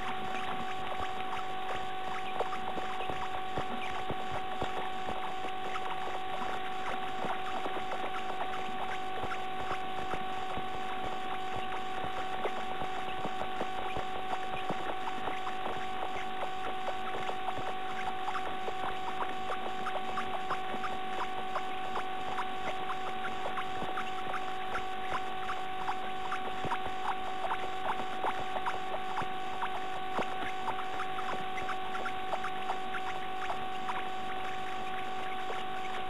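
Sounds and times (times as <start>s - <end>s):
steady electronic whine: 0.0s - 36.0s.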